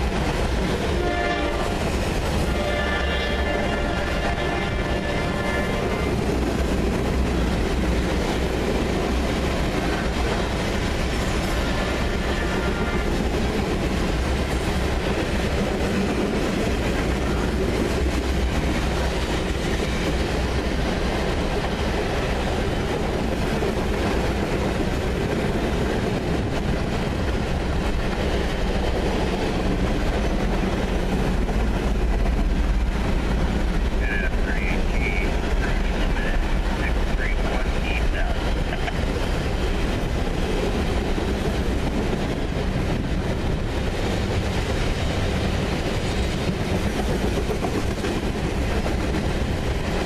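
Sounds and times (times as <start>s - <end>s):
freight train wheels on rails: 0.0s - 50.0s.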